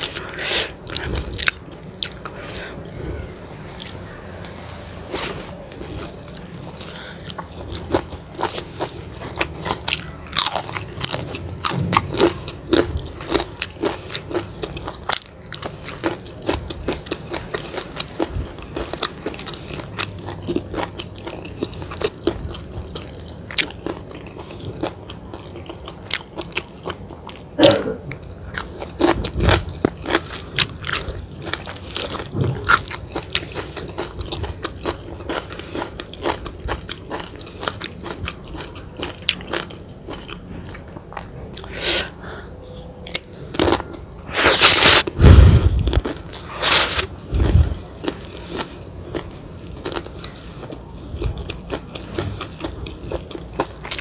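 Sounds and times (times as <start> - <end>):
person chewing with crisp crunches: 0.0 - 54.0.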